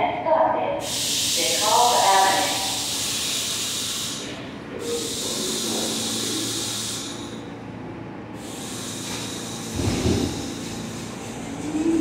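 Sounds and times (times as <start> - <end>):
train air hiss: 0.8 - 7.5, 8.4 - 11.4.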